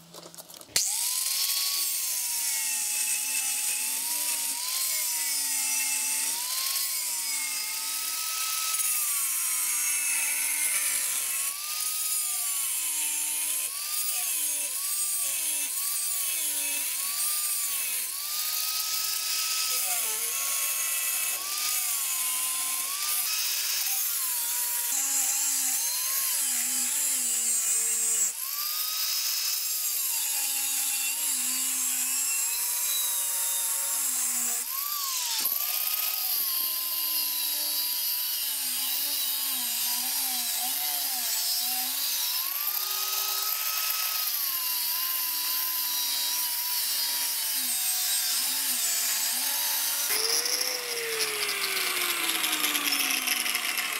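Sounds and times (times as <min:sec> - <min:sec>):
angle grinder cutting steel: 0:00.0 - 0:53.9.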